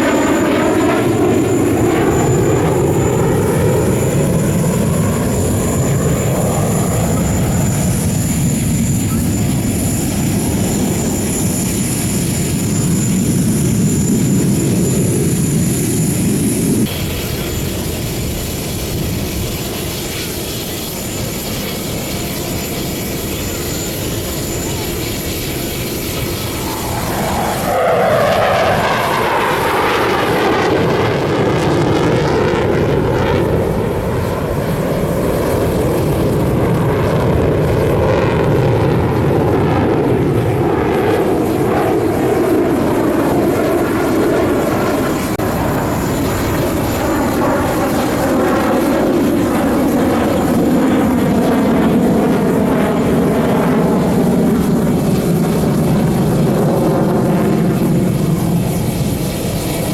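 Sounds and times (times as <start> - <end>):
jet fighters roaring overhead: 0.0 - 59.9.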